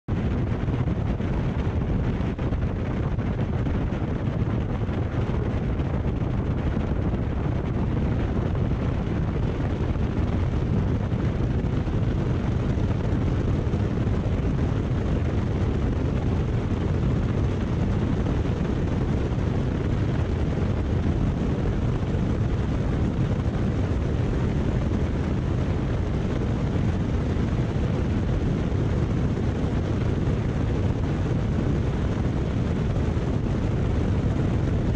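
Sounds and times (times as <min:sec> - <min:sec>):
airplane engine and propeller: 0:00.1 - 0:34.9
wind rushing: 0:00.1 - 0:34.9.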